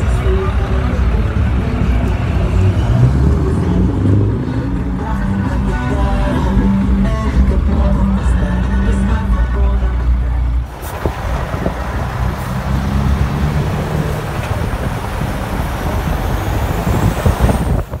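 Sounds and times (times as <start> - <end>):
diesel truck engine running: 0.0 - 18.0
trucks driving on road: 0.0 - 18.0.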